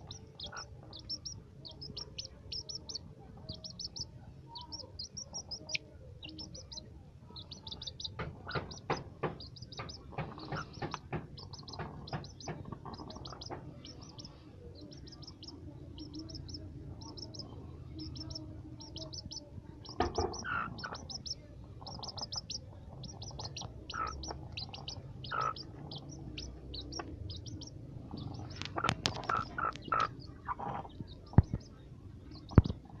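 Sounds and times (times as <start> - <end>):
chick peeping: 0.0 - 33.0.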